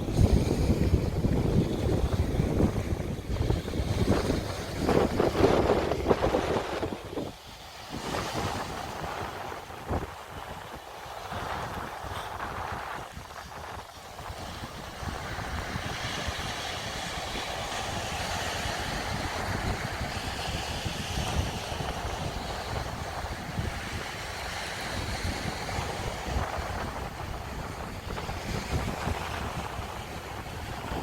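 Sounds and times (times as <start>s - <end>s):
sea waves washing onto shore: 0.0s - 31.0s
wind buffeting microphone: 0.0s - 31.0s.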